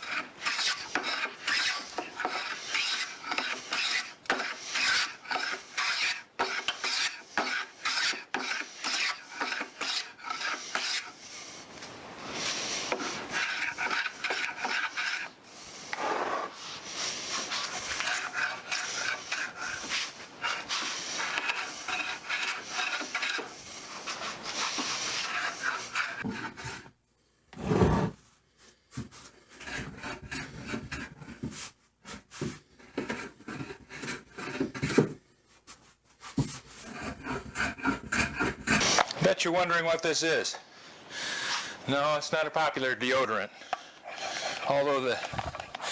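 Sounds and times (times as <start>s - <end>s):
hand plane shaving wood: 0.0s - 26.9s, 27.6s - 28.2s, 28.9s - 40.4s, 41.2s - 45.9s
scraping and handling sounds: 0.0s - 40.7s, 41.3s - 45.9s.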